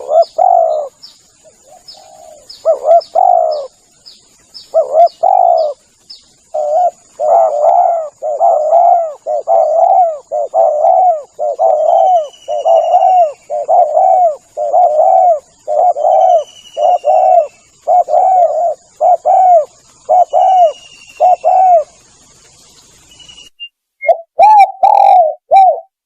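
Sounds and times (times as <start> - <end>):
dove cooing: 0.0 - 3.8, 4.7 - 22.0, 24.0 - 25.9.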